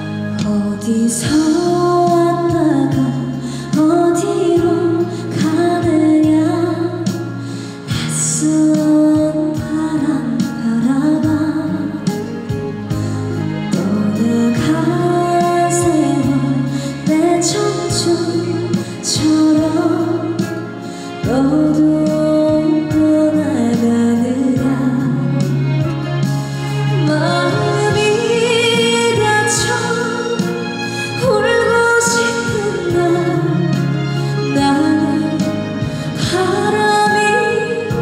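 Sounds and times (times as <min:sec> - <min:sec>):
backing track music: 0:00.0 - 0:38.0.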